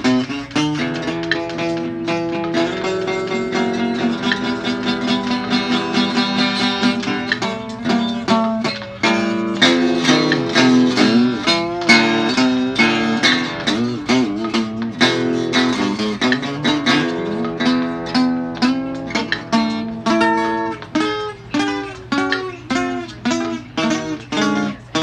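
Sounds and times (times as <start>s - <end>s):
plucked guitar notes bending: 0.0s - 25.0s.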